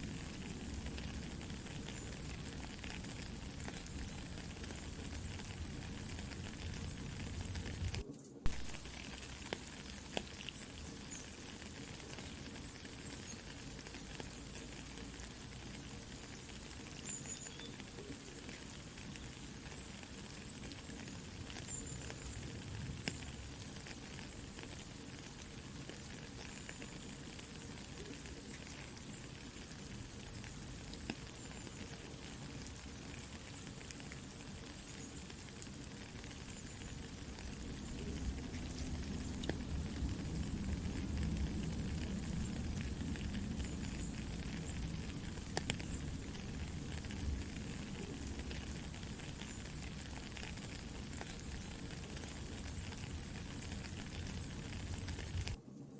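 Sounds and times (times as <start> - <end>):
rain hiss: 0.0 - 55.6
crackling campfire: 0.0 - 55.9.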